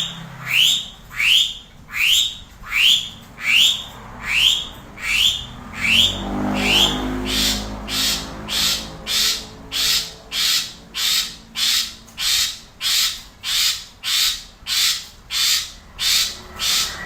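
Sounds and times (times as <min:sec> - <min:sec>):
starling harsh rasping calls: 0:00.0 - 0:17.0.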